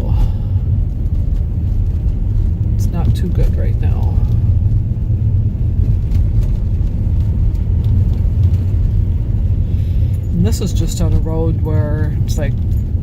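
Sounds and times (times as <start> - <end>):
car driving on snowy road: 0.0 - 13.0.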